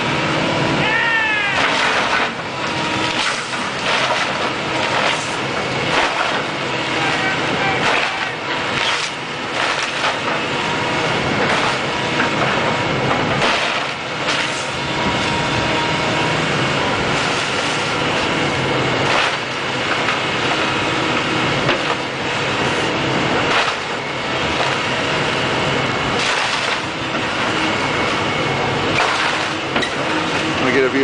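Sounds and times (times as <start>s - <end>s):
heavy machine running: 0.0s - 31.0s
wood and debris cracking: 1.5s - 10.6s, 11.2s - 15.5s, 17.0s - 25.3s, 26.1s - 31.0s.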